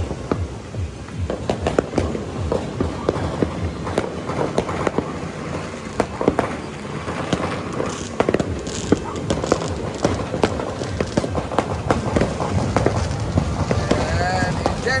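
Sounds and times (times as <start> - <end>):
crackling hiss: 0.0 - 15.0
fireworks bangs: 0.0 - 15.0
low rumble: 0.0 - 15.0.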